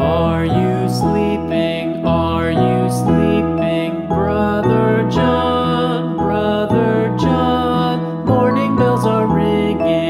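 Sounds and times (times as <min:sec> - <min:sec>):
gentle children's tune: 0:00.0 - 0:10.0.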